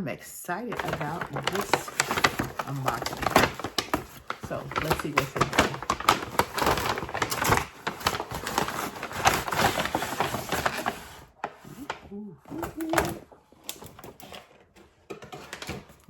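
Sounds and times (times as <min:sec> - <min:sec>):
packaging crinkling and rustling: 0:00.6 - 0:16.0.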